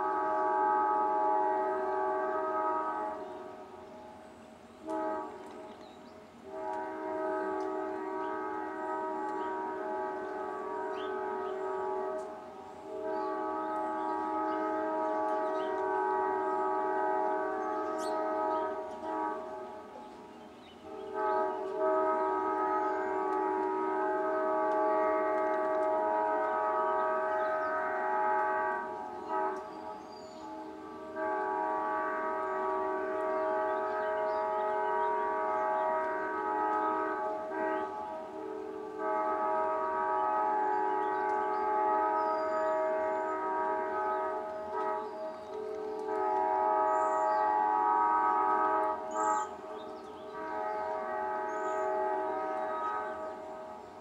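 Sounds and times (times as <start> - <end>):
locomotive air horn: 0.0 - 54.0.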